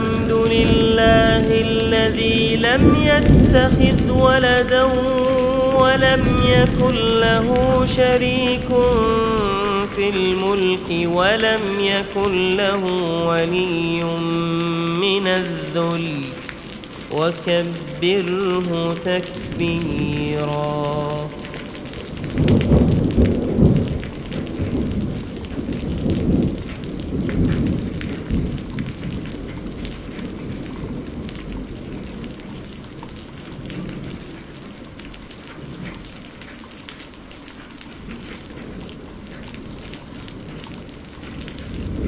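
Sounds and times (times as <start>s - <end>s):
rolling thunder: 0.0s - 36.4s, 38.0s - 42.0s
steady rain: 0.0s - 42.0s.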